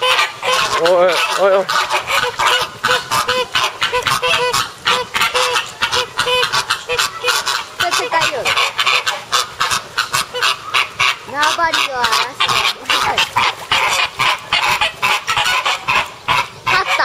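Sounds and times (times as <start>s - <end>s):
flamingos honking: 0.0s - 17.0s.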